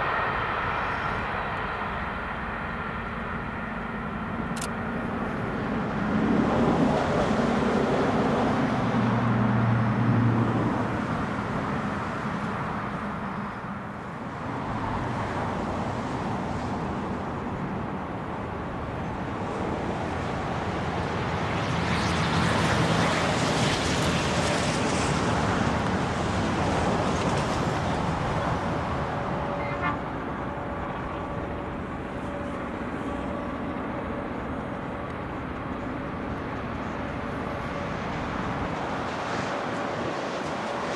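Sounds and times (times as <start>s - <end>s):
distant freight train: 0.0s - 40.9s
passenger train rumble: 0.0s - 40.9s.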